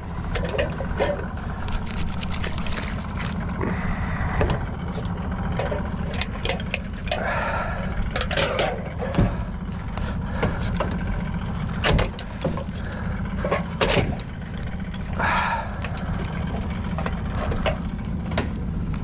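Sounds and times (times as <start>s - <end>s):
outboard motor idling: 0.0s - 19.0s
gear clicking and knocking: 0.2s - 19.0s.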